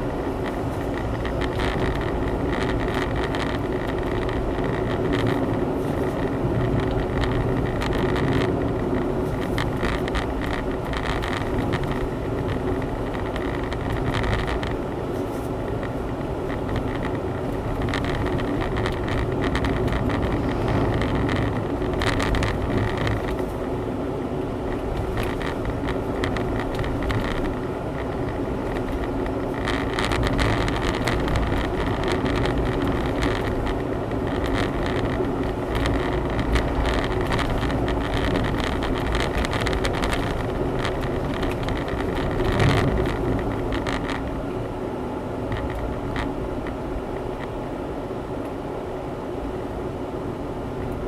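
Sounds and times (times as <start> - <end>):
car engine running: 0.0 - 48.4
tyre and road rumble: 0.0 - 48.4.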